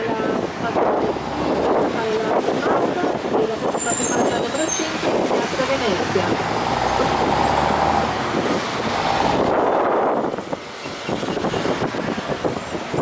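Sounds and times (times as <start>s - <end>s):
bus engine running: 0.0s - 13.0s
city traffic: 0.0s - 13.0s
wind buffeting microphone: 0.0s - 13.0s.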